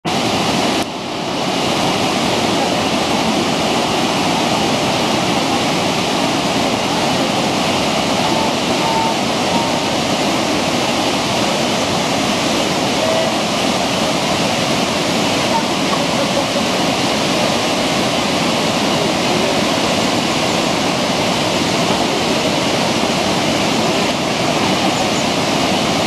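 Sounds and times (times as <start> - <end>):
whitewater rushing over weir: 0.0 - 26.0.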